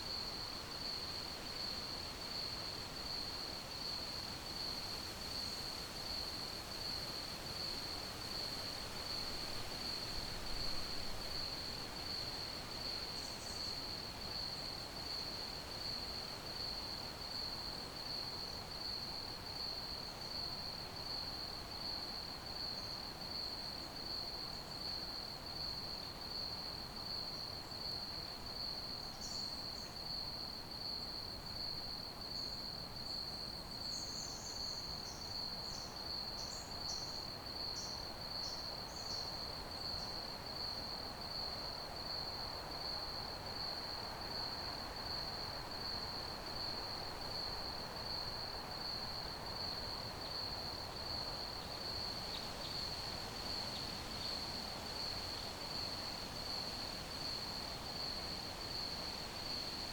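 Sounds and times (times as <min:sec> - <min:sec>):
soft background hiss: 0:07.6 - 0:59.9.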